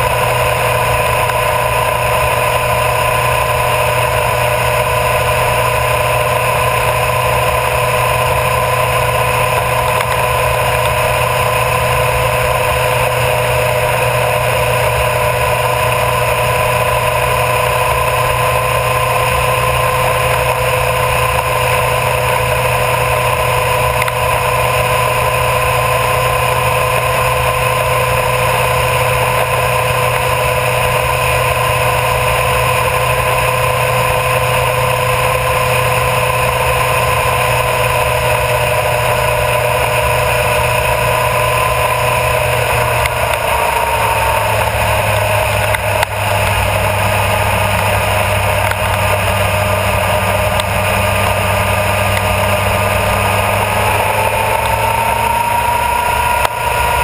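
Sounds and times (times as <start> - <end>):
motorcycle engine cruising: 0.0 - 57.0
road and wind noise: 0.0 - 57.0.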